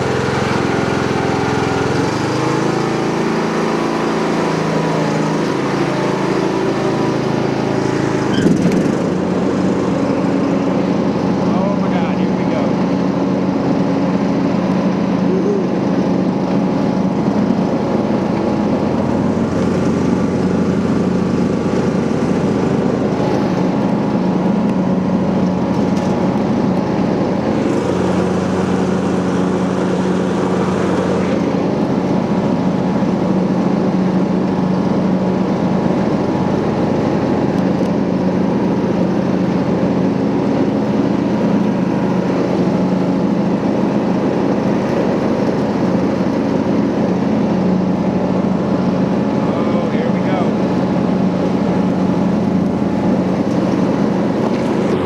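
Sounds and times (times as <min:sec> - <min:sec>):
riding lawn mower engine running: 0:00.0 - 0:55.0.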